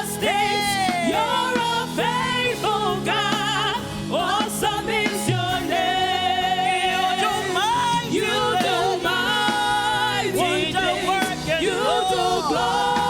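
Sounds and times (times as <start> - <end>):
gospel singing: 0.0 - 13.0.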